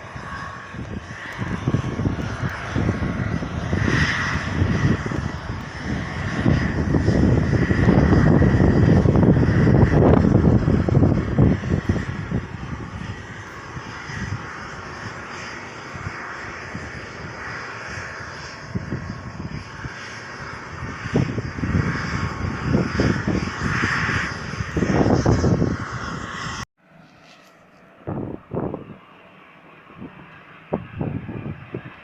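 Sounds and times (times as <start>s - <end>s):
helicopter engine and rotor: 0.0s - 26.2s
wind buffeting microphone: 0.0s - 26.7s, 27.9s - 32.0s.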